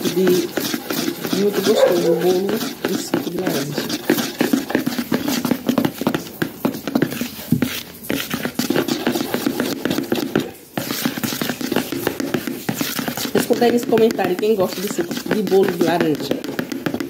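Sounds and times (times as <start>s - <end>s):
hand squelching cake mixture: 0.0s - 17.0s.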